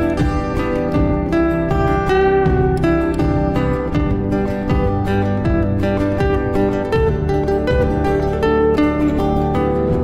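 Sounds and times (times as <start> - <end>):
plucked guitar-like notes: 0.0 - 10.0
steady bass line: 0.0 - 10.0.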